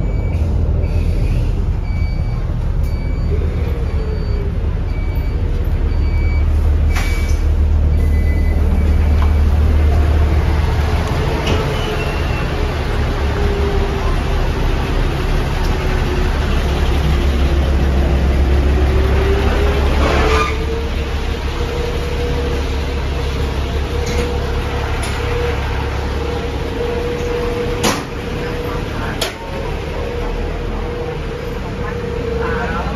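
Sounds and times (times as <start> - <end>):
diesel bus engine rumbling: 0.0 - 32.9
street traffic: 0.0 - 32.9.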